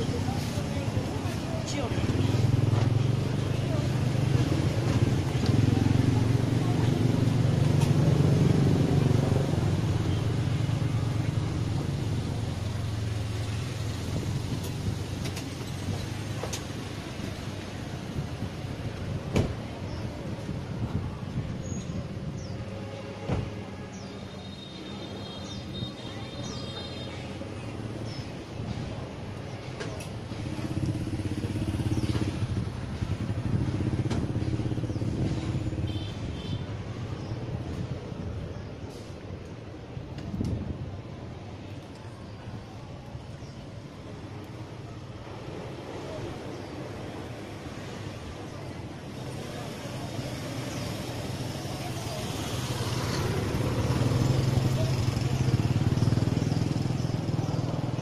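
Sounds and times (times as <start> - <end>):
light street clatter: 0.0 - 58.0.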